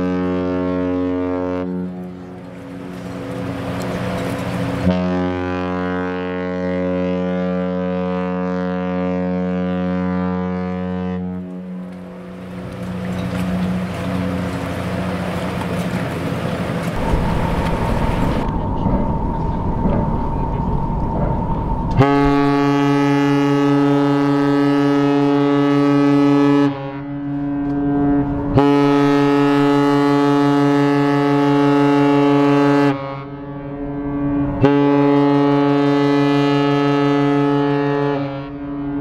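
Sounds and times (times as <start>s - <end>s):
ship horn blasts: 0.0s - 39.0s.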